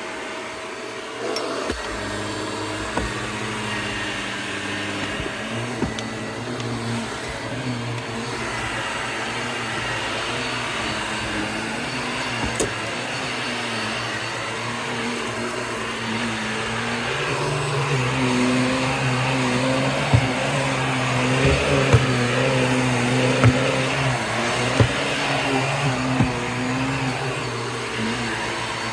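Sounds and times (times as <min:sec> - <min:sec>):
vacuum cleaner running: 0:00.0 - 0:28.9
debris crunching in vacuum: 0:01.7 - 0:28.9.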